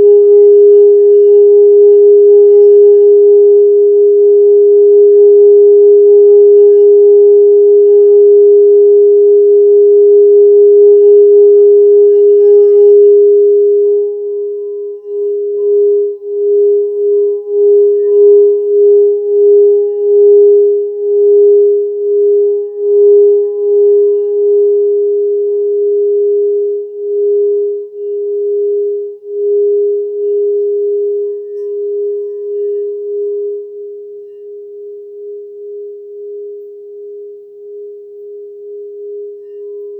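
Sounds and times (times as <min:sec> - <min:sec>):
singing bowl tone: 0:00.0 - 0:39.9.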